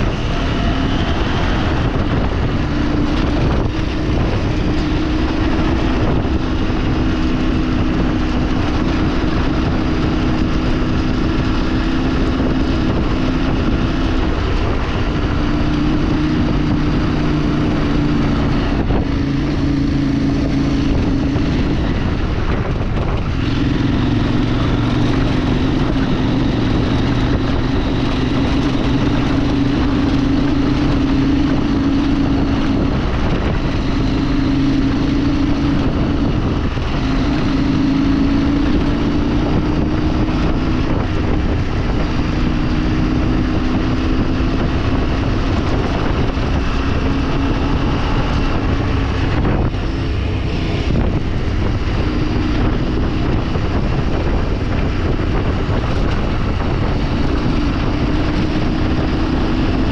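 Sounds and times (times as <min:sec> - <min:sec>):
vehicle engine running: 0:00.0 - 0:59.9
wind noise on microphone: 0:00.0 - 0:59.9.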